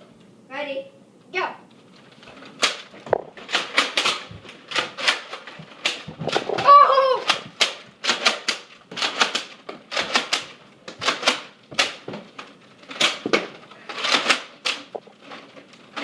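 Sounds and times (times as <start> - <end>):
sharp clicks and knocks: 2.0 - 16.0.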